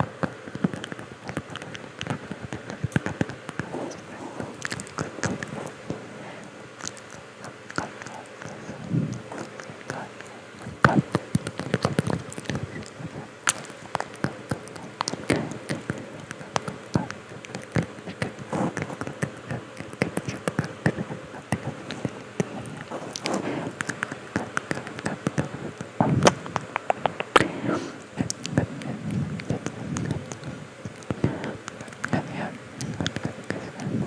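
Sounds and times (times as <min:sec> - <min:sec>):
person whispering: 0:00.0 - 0:34.0.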